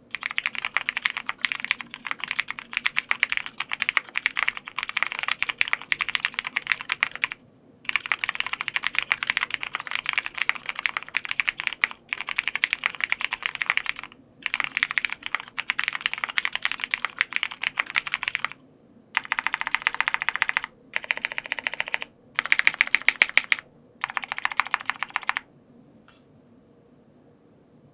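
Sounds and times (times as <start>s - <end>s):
mechanical keyboard typing: 0.1s - 18.6s, 19.2s - 25.4s.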